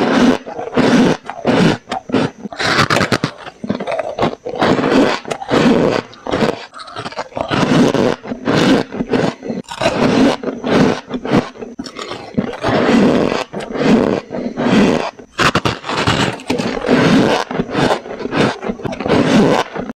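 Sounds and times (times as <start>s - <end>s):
frost being chewed: 0.0s - 19.9s.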